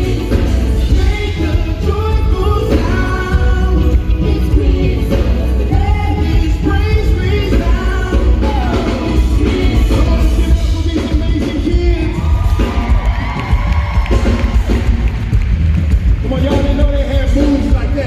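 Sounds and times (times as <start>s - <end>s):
song with heavy bass: 0.0s - 18.0s.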